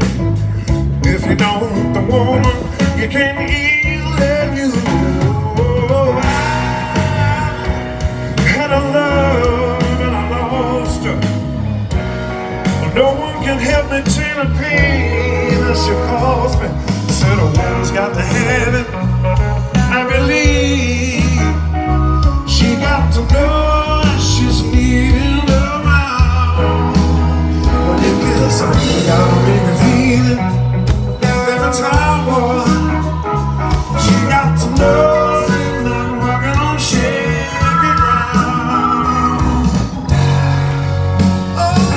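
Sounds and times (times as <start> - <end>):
blues-rock band playing: 0.0 - 41.9
person singing: 0.4 - 11.7, 12.6 - 40.4, 41.4 - 41.9.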